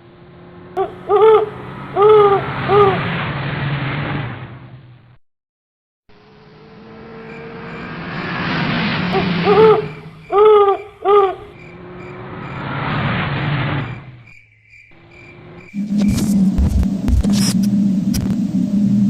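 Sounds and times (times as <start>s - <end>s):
road traffic passing: 0.0s - 5.2s, 6.1s - 19.0s.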